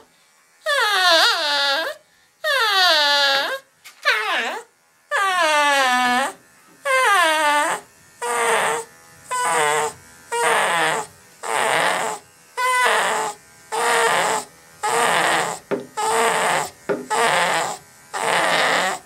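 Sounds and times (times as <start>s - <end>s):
dog crying out: 0.7s - 19.0s.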